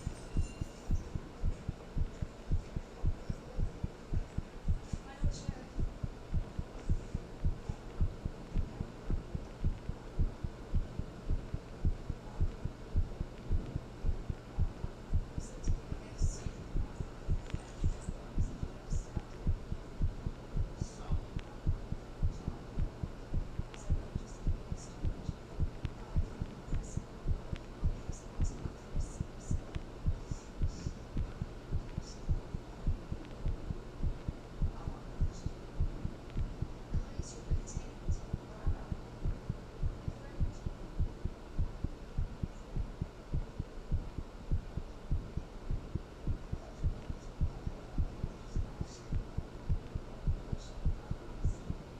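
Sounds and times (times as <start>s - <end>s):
heartbeat thumps: 0.0s - 51.9s
low steady hum: 0.0s - 51.9s.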